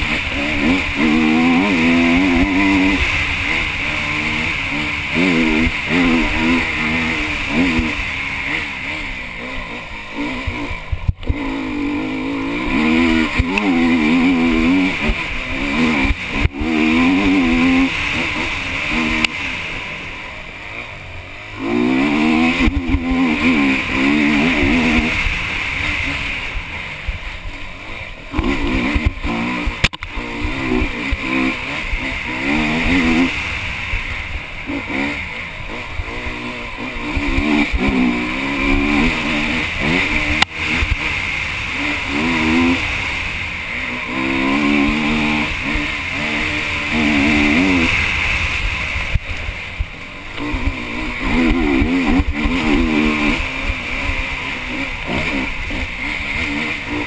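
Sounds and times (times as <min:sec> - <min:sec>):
motorcycle engine revving: 0:00.0 - 0:57.0
motorcycle hitting bumps: 0:00.0 - 0:57.0.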